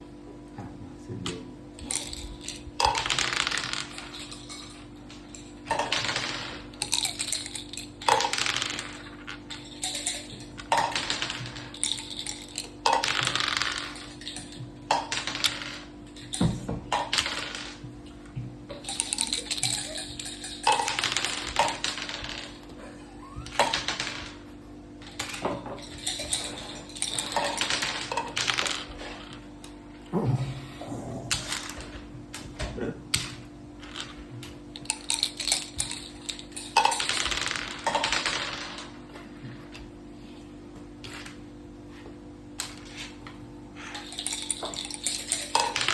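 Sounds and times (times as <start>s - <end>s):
game pieces clicking on board: 1.2s - 17.9s, 18.8s - 29.8s, 31.1s - 39.0s, 43.8s - 45.9s
dice and checkers rattling: 1.8s - 29.8s, 31.0s - 32.5s, 33.1s - 39.8s, 42.5s - 45.9s.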